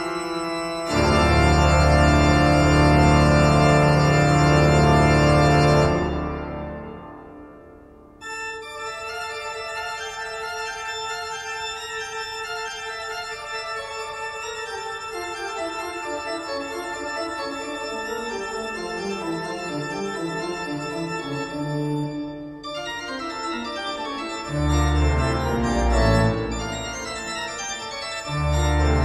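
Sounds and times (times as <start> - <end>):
organ-like chords: 0.0 - 29.0.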